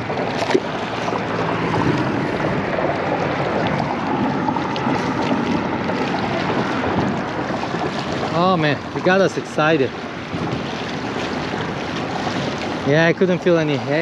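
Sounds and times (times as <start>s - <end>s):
water washing: 0.0s - 14.0s
wind on microphone: 0.0s - 14.0s.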